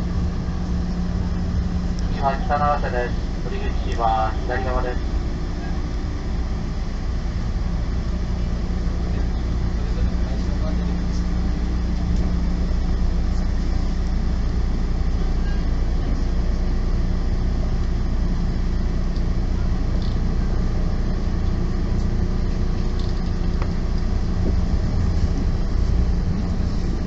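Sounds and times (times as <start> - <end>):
constant hum: 0.0 - 27.0
train interior rumble: 0.0 - 27.0.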